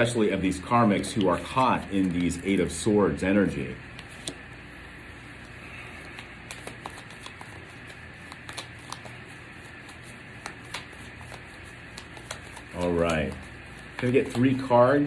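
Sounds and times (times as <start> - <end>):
cards being shuffled: 0.7 - 2.8, 3.5 - 15.0.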